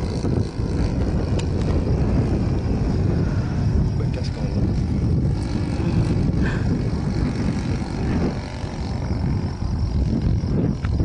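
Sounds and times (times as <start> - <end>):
model airplane engine droning: 0.0 - 11.0
wind rumbling on microphone: 0.0 - 11.0.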